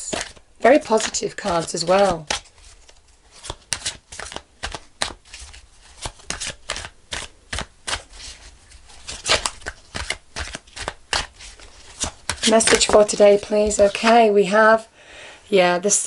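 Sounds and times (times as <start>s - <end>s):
cards being shuffled: 0.0s - 14.3s.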